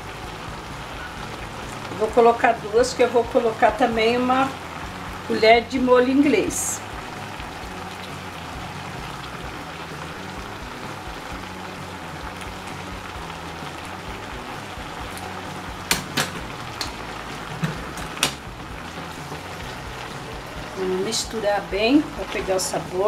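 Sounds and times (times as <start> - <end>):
vegetables sizzling in a pot: 0.0 - 23.0.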